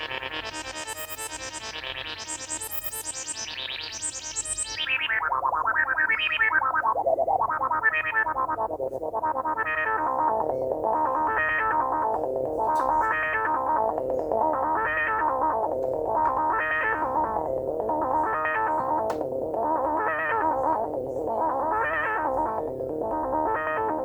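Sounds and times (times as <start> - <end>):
synthesizer with rhythmic filter sweep: 0.0 - 24.0.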